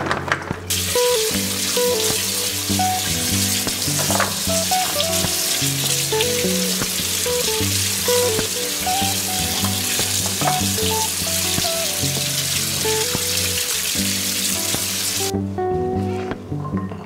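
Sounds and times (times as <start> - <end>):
background music: 0.0 - 17.0
tap water running: 0.7 - 15.3.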